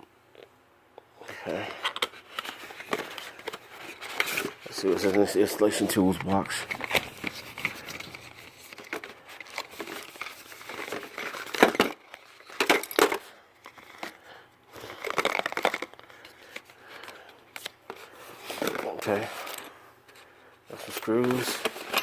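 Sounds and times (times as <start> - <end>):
packaging rustling and crinkling: 1.5 - 19.5, 20.7 - 22.0.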